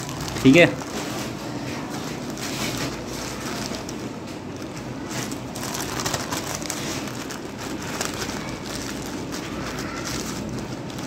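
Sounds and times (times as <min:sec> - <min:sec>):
plastic mailer crinkling: 0:00.0 - 0:11.0.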